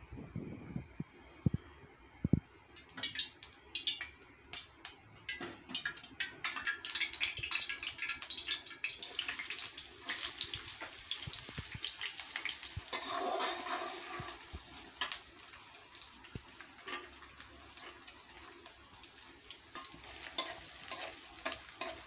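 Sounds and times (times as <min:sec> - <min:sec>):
onions frying in hot oil: 0:00.8 - 0:22.0.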